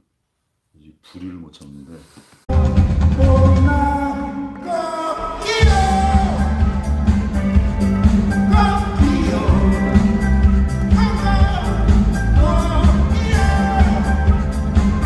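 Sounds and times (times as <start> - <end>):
pop-rock music with singing: 2.5 - 15.0.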